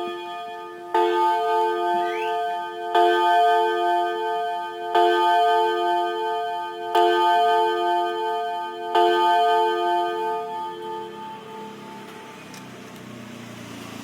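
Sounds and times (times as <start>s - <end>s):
clock chime tones: 0.0s - 12.9s.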